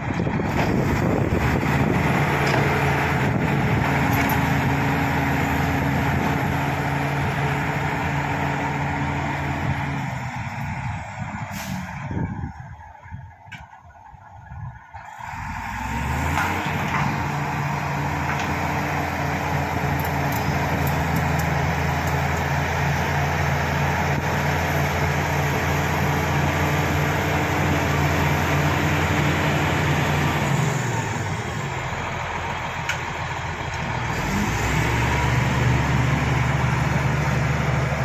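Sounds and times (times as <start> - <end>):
bulldozer diesel engine revving: 0.0 - 12.8, 15.0 - 38.0.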